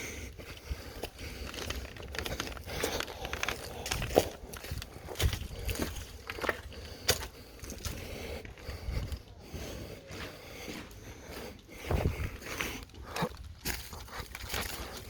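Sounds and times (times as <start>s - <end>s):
footsteps walking: 0.4s - 15.0s.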